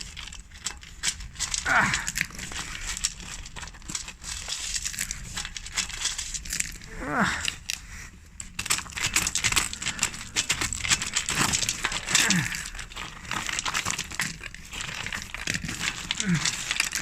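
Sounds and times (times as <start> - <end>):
rustling and scraping handling noise: 0.0 - 17.0
small clicks and crackles: 0.0 - 17.0.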